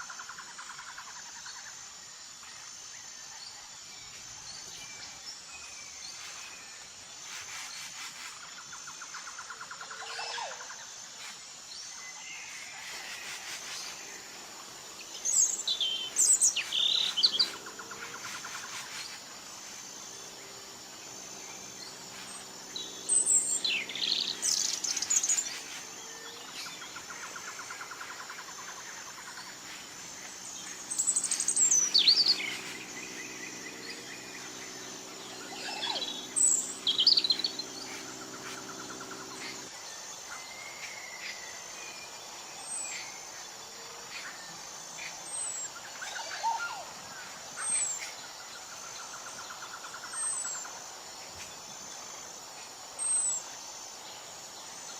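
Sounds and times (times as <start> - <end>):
insect trill: 0.0 - 54.9.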